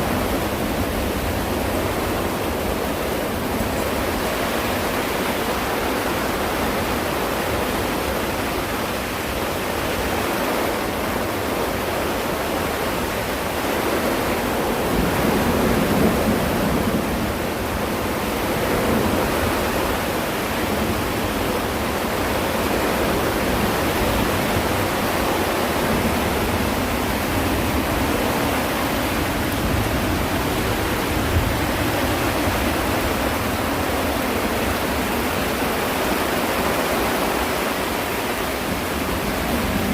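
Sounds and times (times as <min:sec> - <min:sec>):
heavy rain: 0:00.0 - 0:39.9
strong wind: 0:00.0 - 0:39.9.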